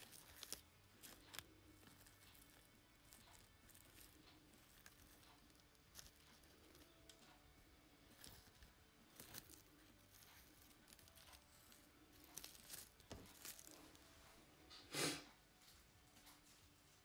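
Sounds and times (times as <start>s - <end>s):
plastic glove rustling: 0.0s - 14.7s.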